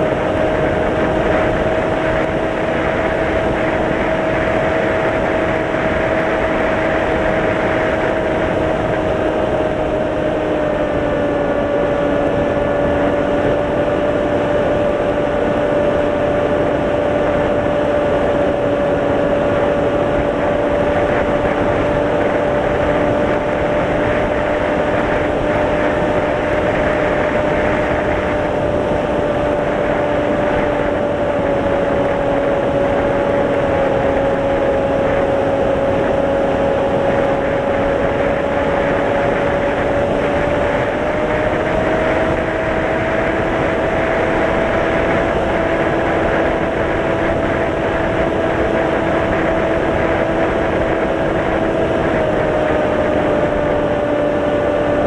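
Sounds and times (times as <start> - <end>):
electric motor and propeller hum: 0.0 - 55.0
wind rush on microphone: 0.0 - 55.0.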